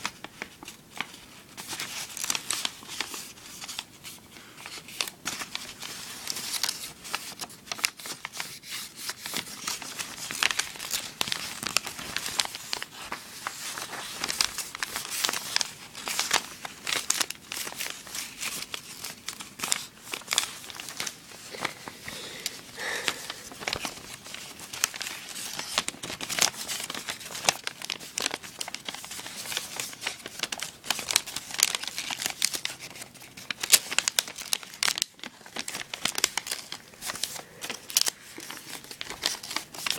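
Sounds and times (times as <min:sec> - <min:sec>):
paper being folded and crinkling: 0:00.0 - 0:39.9.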